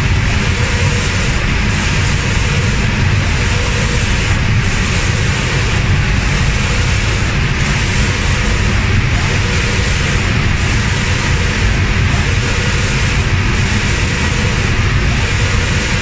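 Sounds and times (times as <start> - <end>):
low machinery rumble: 0.0 - 16.0
spray guns hissing: 0.1 - 16.0.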